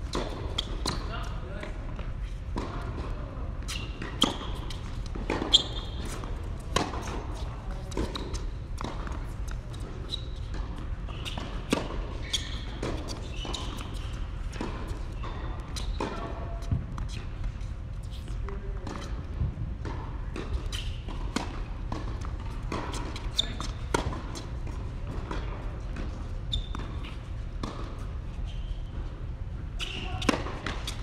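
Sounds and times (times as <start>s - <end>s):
court shoes squeaking: 0.0s - 31.0s
tennis balls bouncing and hit: 0.0s - 31.0s.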